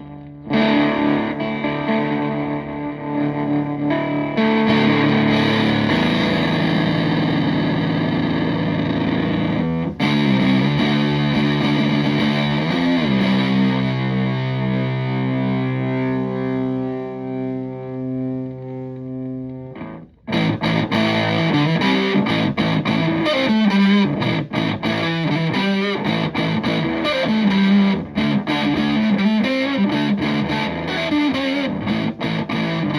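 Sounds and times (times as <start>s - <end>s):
fast choppy guitar strumming: 0.0s - 16.6s, 19.8s - 32.9s
fuzzed electric guitar chords: 0.0s - 32.9s.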